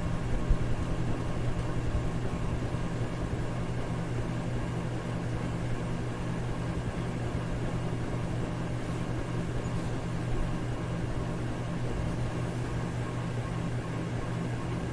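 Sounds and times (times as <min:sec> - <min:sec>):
electric fan running: 0:00.0 - 0:14.9.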